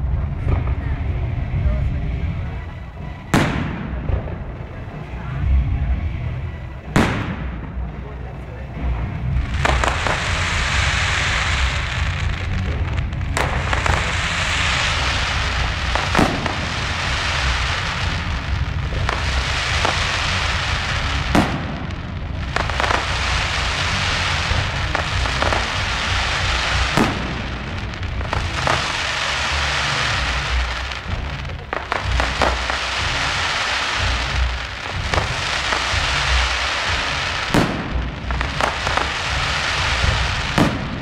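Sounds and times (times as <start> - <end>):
fireworks crackling and hissing: 0.0 - 41.0.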